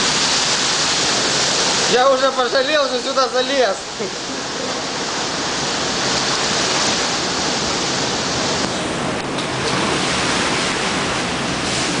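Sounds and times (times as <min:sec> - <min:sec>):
seawater washing across deck: 0:00.0 - 0:12.0
waves breaking against hull: 0:00.0 - 0:12.0.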